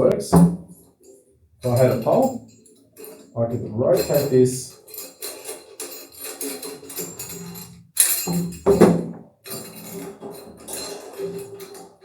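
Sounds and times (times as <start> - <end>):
metal clinking and rattling: 0.0 - 12.0.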